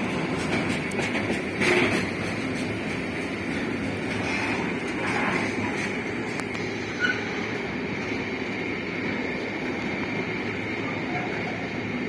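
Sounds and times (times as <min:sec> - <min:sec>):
freight train wagons rolling: 0:00.0 - 0:12.0.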